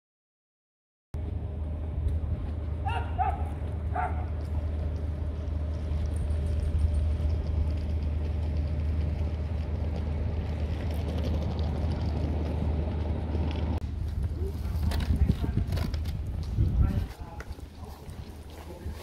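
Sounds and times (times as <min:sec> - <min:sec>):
low engine rumble: 0:01.2 - 0:19.0
outdoor car park noise: 0:01.2 - 0:19.0.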